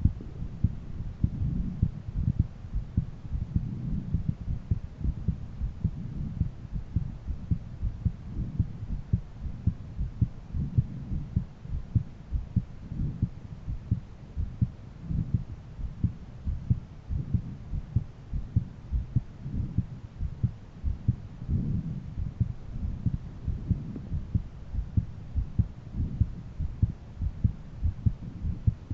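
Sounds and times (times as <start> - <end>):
faint low hum: 0.0 - 28.9
heartbeat thumps: 0.0 - 28.9.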